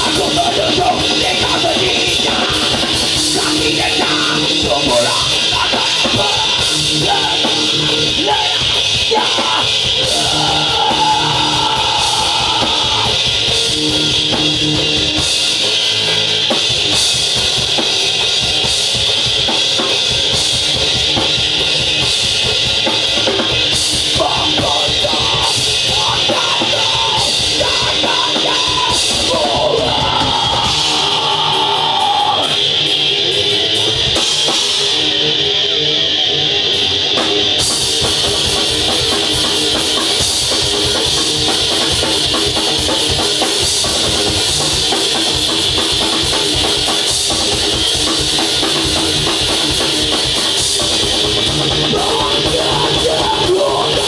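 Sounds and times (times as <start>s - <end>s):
electric guitar: 0.0s - 54.0s
fast drum kit: 0.0s - 54.0s.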